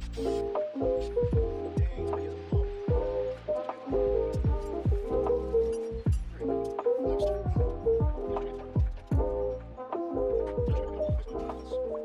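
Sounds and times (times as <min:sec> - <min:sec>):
deep bass hits: 0:00.0 - 0:00.3, 0:00.9 - 0:09.6, 0:10.3 - 0:11.7.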